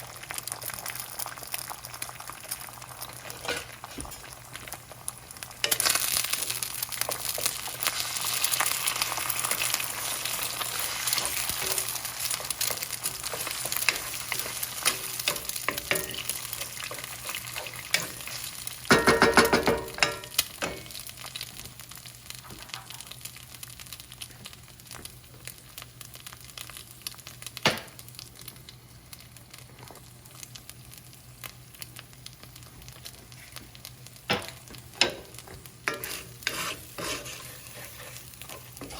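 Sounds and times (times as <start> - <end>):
food sizzling in a hot pan: 0.0 - 38.9.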